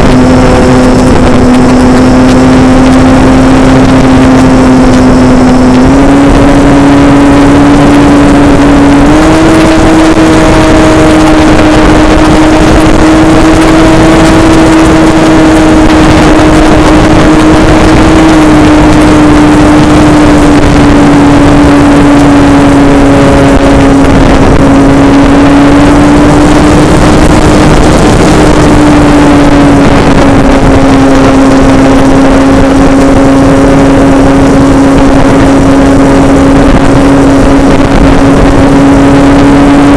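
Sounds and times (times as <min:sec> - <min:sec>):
model airplane motor and propeller: 0:00.0 - 0:39.9
wind noise: 0:00.0 - 0:39.9.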